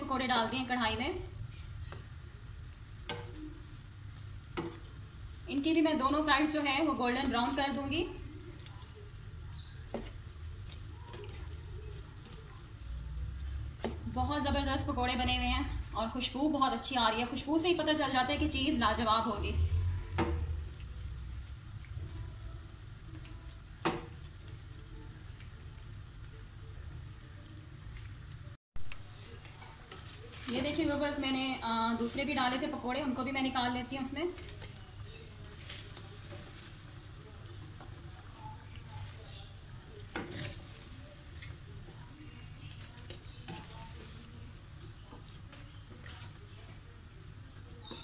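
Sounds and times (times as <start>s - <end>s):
deep-frying sizzle: 0.0s - 48.0s.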